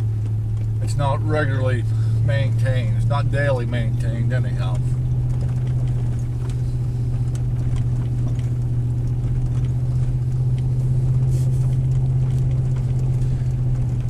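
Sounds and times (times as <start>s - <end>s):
light rattles and knocks: 0.0s - 14.0s
vehicle engine and road drone: 0.0s - 14.0s.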